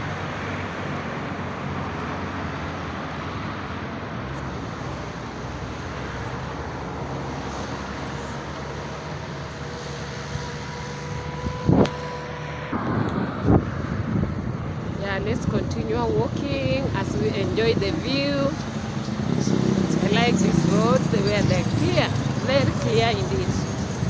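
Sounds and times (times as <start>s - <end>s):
vehicle passing on road: 0.0s - 24.0s.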